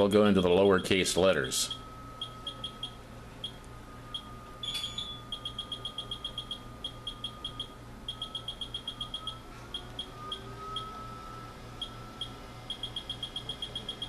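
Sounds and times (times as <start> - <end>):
short high electronic beeps: 1.7 - 14.0.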